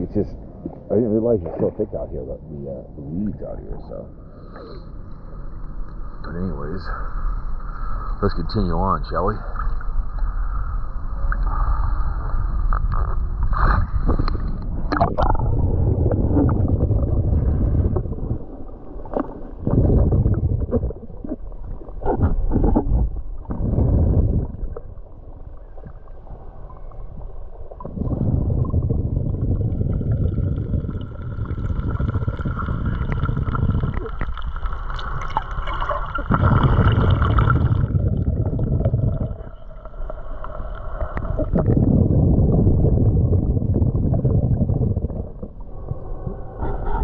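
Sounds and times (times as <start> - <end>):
underwater rumbling and gurgling: 0.0 - 47.0.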